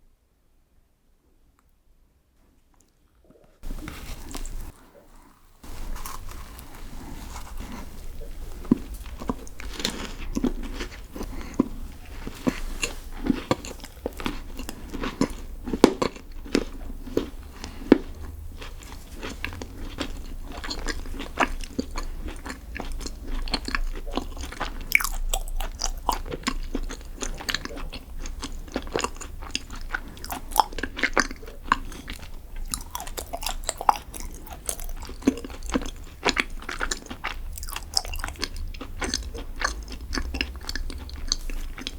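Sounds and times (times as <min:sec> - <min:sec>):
biting and chewing crunchy food: 0:03.6 - 0:41.9.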